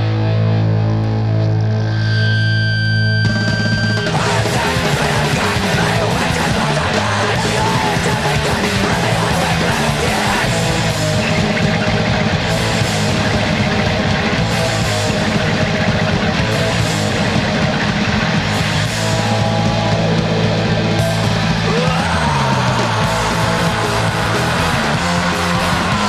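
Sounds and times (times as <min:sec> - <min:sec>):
bass guitar: 0:00.0 - 0:26.0
distorted electric guitar: 0:00.0 - 0:26.0
drums: 0:02.1 - 0:26.0.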